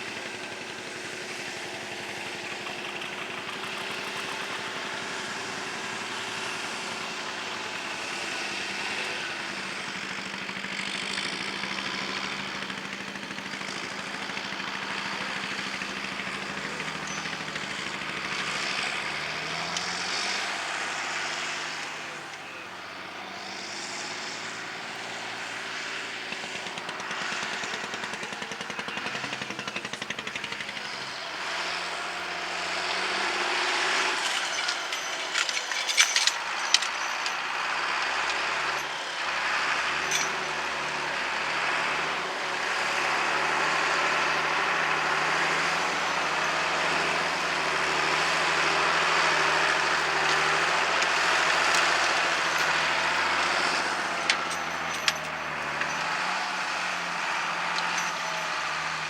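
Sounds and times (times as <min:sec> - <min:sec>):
tractor engine under load: 0:00.0 - 0:59.0.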